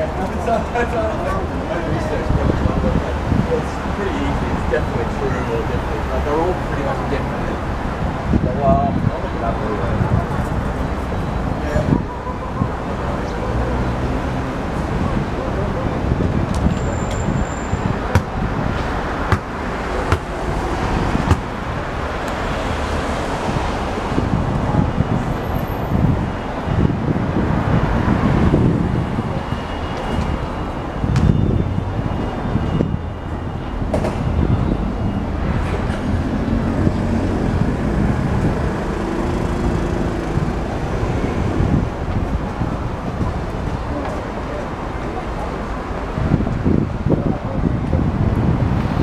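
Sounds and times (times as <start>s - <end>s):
road traffic noise: 0.0s - 49.0s
wind on microphone: 1.4s - 5.9s, 7.4s - 13.6s, 14.5s - 49.0s.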